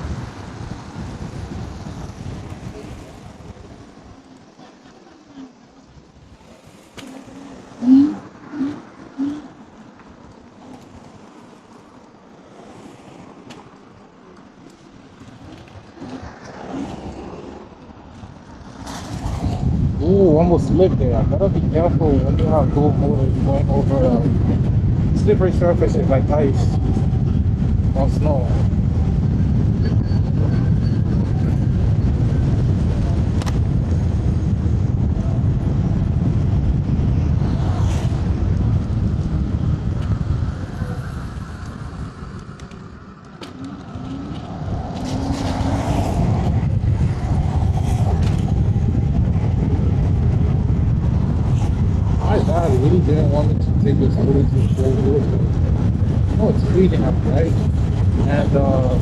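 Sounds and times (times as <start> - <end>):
scooter tyre noise: 0.0 - 25.2, 26.0 - 59.0
wind on microphone: 0.0 - 59.0.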